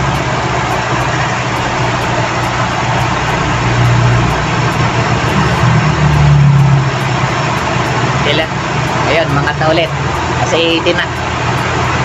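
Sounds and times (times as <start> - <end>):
car engine idling: 0.0 - 12.0
steady rushing noise: 0.0 - 12.0.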